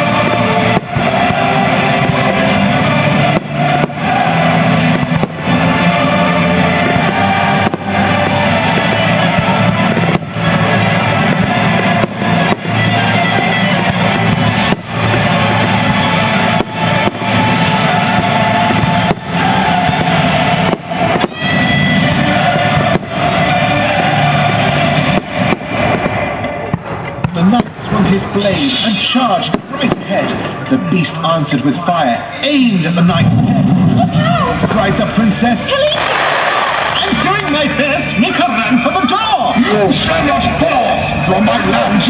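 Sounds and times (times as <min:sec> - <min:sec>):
fireworks bursting: 0:00.0 - 0:31.8, 0:32.4 - 0:42.0
loud music: 0:00.0 - 0:42.0.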